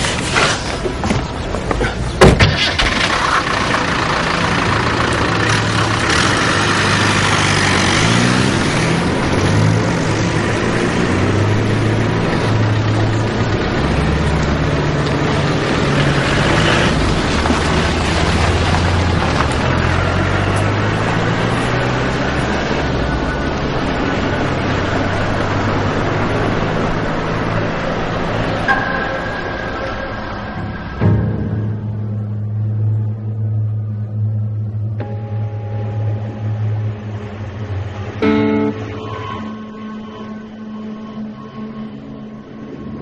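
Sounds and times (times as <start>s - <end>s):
street noise: 0.0s - 43.0s
truck engine starting and running: 0.0s - 43.0s.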